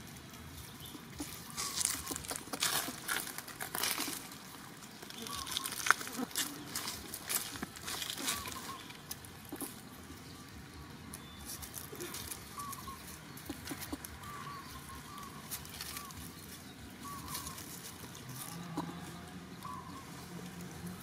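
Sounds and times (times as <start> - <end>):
dry leaves rustling and crackling: 0.0 - 21.0.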